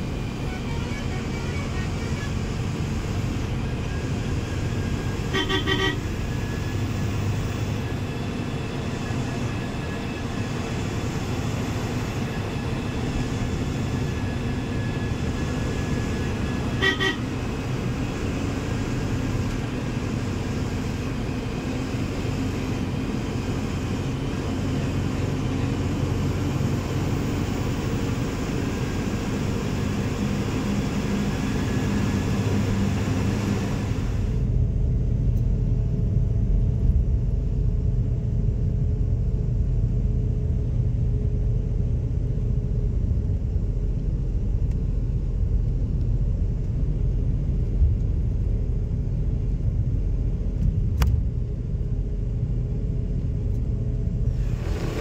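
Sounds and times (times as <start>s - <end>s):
bus road and engine hum: 0.0s - 55.0s.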